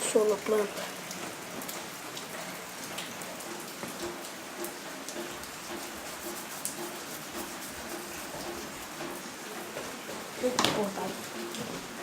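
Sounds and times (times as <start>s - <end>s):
raindrops ticking: 0.0s - 12.0s
steady rain: 0.0s - 12.0s.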